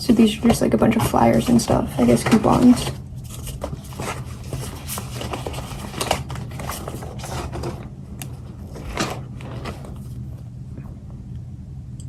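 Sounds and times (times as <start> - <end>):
low steady hum: 0.0 - 12.0
paper rustling and tapping: 0.1 - 10.5.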